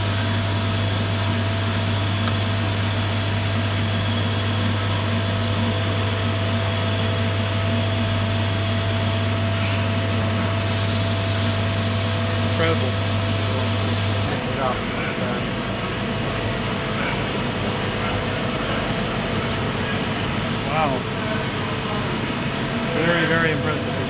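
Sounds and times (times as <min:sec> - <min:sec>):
coolant jets spraying: 0:00.0 - 0:24.0
machine humming: 0:00.0 - 0:24.0.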